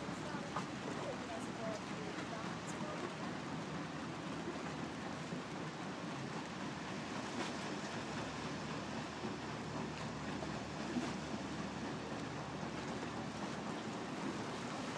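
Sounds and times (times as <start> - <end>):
churning water: 0.0 - 14.9
paddle steamer running noise: 0.0 - 14.9.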